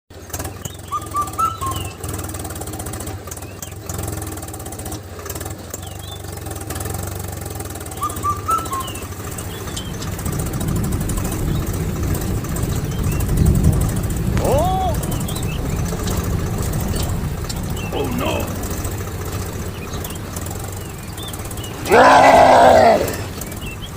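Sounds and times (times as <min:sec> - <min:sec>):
birds chirping: 0:00.1 - 0:02.3, 0:03.3 - 0:03.9, 0:05.7 - 0:06.4, 0:07.7 - 0:23.9.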